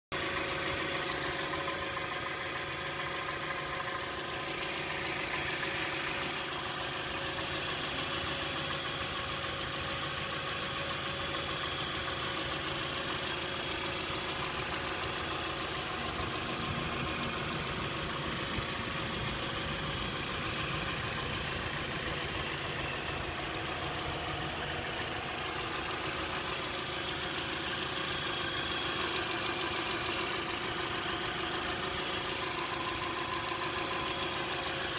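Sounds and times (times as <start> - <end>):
car engine idling: 0.1 - 34.9
engine rattle: 0.1 - 34.9.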